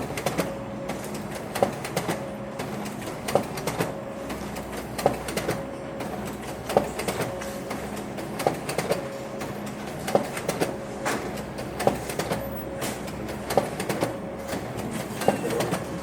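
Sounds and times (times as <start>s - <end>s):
printer clicking: 0.0s - 16.0s
printer whirring: 0.0s - 16.0s.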